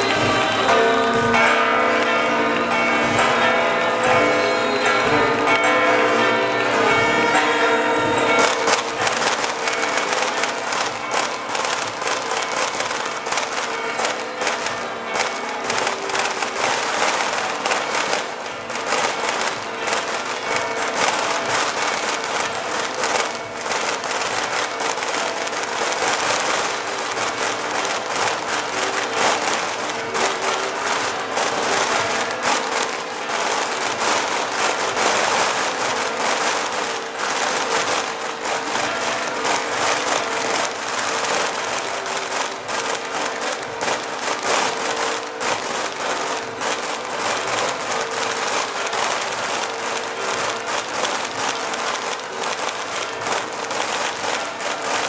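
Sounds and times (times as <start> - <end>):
large crowd applauding: 0.0 - 55.0.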